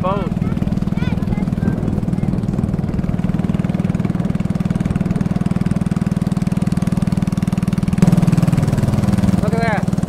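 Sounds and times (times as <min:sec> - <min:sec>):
small boat engine running: 0:00.0 - 0:10.0.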